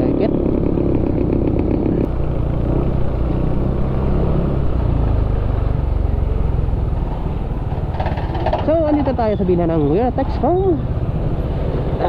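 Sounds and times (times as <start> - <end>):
road and wind noise: 0.0 - 12.0
scooter engine droning: 0.0 - 12.0.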